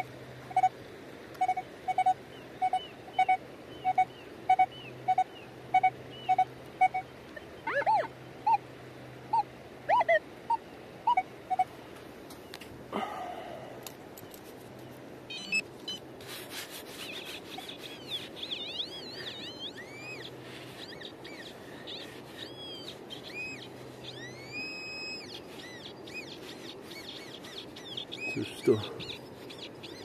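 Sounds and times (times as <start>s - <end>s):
birds chirping: 1.4s - 8.6s, 12.3s - 16.0s, 16.9s - 30.0s.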